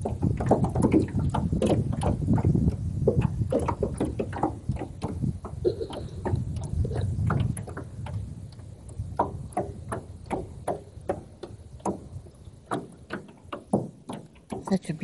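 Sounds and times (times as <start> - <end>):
knocks on a small boat: 0.0 - 8.2, 9.1 - 15.0.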